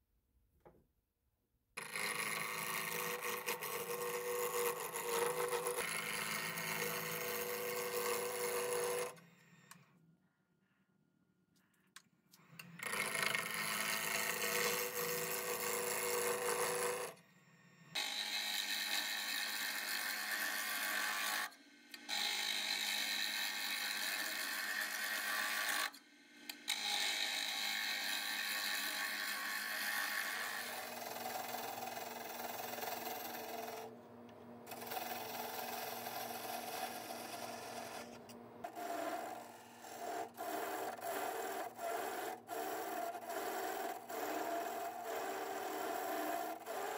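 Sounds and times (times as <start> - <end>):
lathe tool scraping wood: 1.8 - 9.2, 12.8 - 17.2, 18.0 - 21.5, 22.1 - 25.9, 26.6 - 34.0, 34.7 - 46.9.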